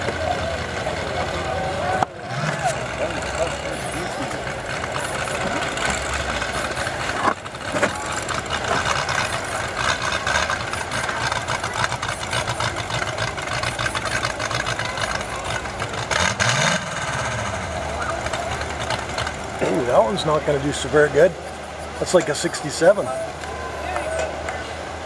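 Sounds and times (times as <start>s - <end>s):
engine revving: 0.0s - 23.5s
car engines idling: 0.0s - 25.0s.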